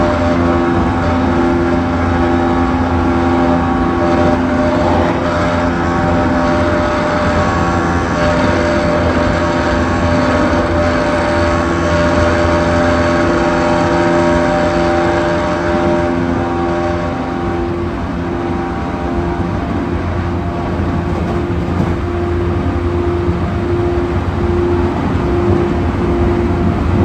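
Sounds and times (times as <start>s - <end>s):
electric train rumbling: 0.0s - 27.0s
steady humming tones: 0.0s - 27.0s.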